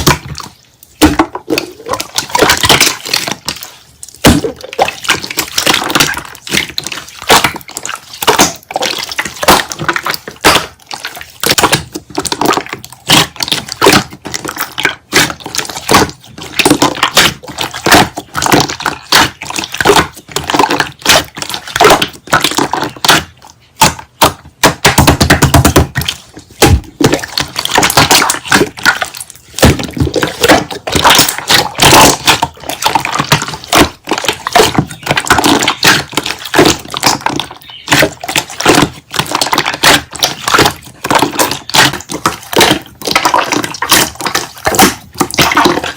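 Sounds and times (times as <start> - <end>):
slime being squished by hand: 0.0 - 45.9.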